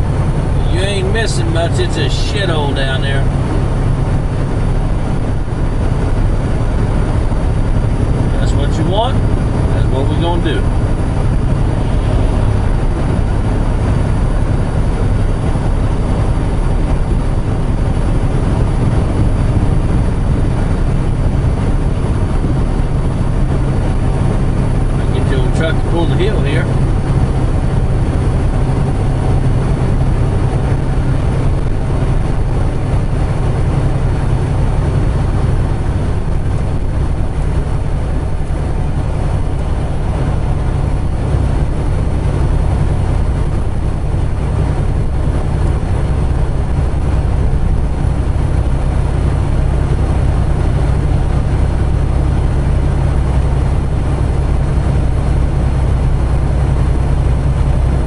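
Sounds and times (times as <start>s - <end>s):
road noise: 0.0s - 58.0s
truck diesel engine drone: 0.0s - 58.0s.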